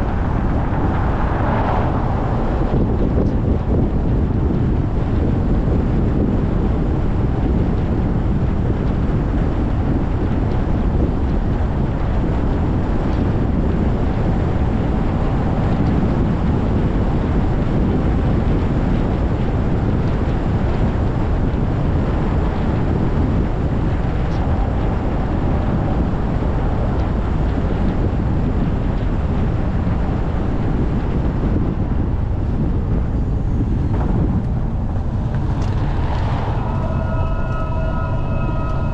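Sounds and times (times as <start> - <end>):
road and tyre noise: 0.0 - 38.9.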